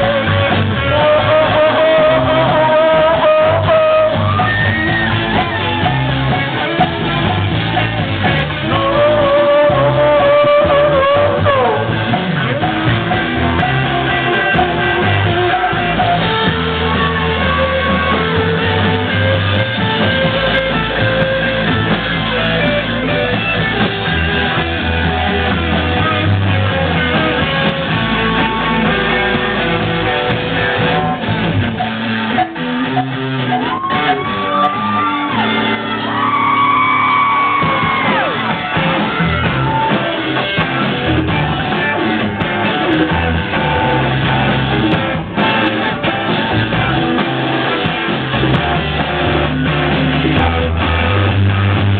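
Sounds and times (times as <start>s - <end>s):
electric guitars: 0.0s - 51.9s
live rock band playing: 0.0s - 51.9s.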